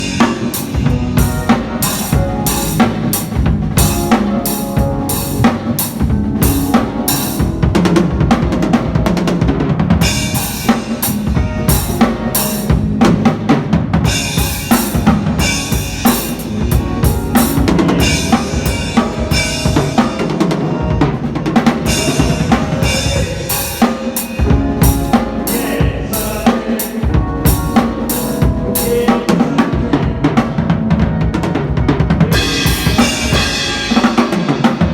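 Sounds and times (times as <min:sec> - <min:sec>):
steady low notes: 0:00.0 - 0:23.8, 0:24.4 - 0:34.9
rapid drum strokes: 0:00.0 - 0:34.9.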